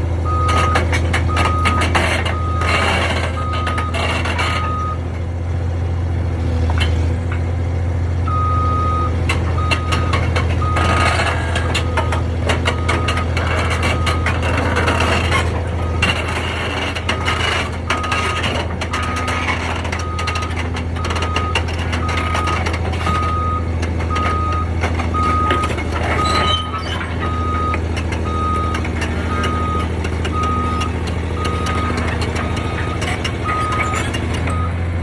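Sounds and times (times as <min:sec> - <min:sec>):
reversing alarm beeping: 0:00.2 - 0:05.0, 0:08.3 - 0:34.8
machine engine drone: 0:00.2 - 0:05.2, 0:08.2 - 0:35.0.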